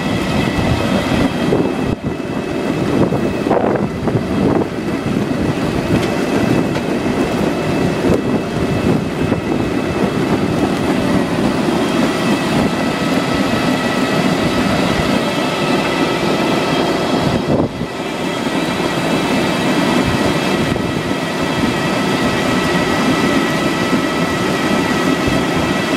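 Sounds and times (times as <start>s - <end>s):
thin steady whines: 0.0s - 25.9s.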